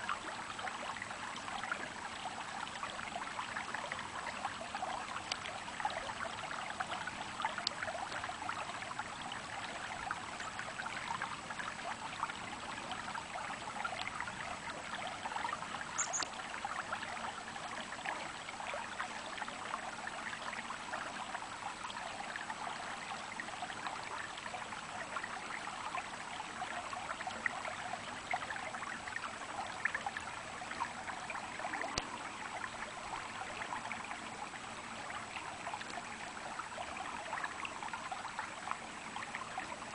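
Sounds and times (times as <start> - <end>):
stream babbling and trickling: 0.0 - 39.9.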